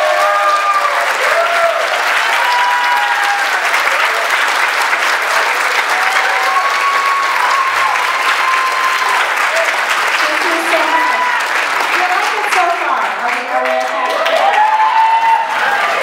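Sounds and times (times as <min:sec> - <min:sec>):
drawn-out cheers: 0:00.0 - 0:04.6, 0:05.3 - 0:11.8, 0:13.5 - 0:16.0
audience clapping: 0:00.0 - 0:16.0.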